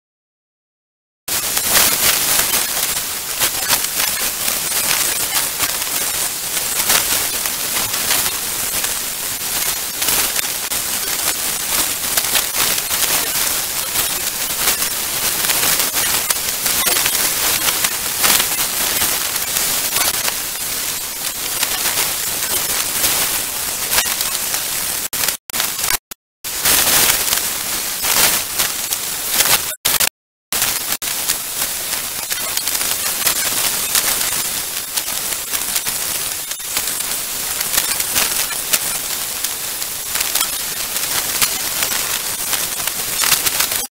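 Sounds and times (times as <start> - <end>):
heavy rain: 1.3 - 30.0, 30.6 - 43.9.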